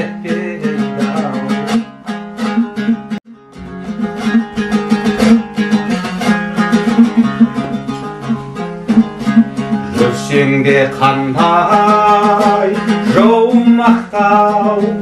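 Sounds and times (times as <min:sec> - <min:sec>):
lute strummed fast: 0:00.0 - 0:15.0.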